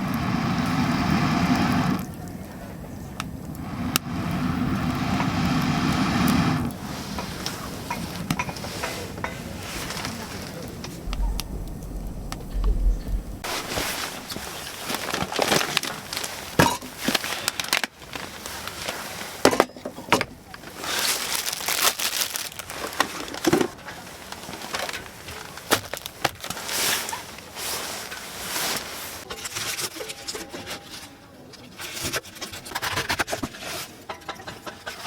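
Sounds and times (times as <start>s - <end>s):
rustling and handling noises: 6.6s - 35.0s.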